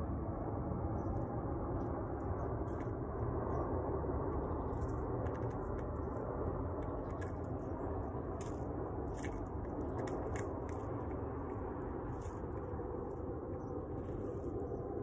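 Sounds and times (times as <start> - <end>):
low background rumble: 0.0 - 15.0
bird foraging in dry leaves: 1.2 - 15.0.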